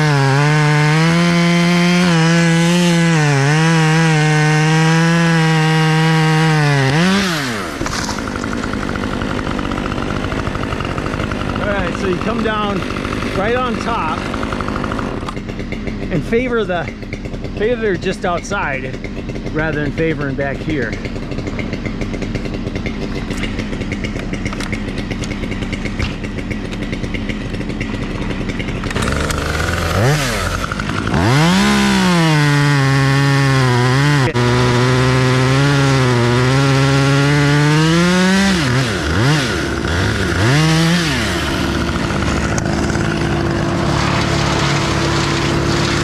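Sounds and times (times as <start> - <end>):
chainsaw revving and cutting wood: 0.0 - 46.0.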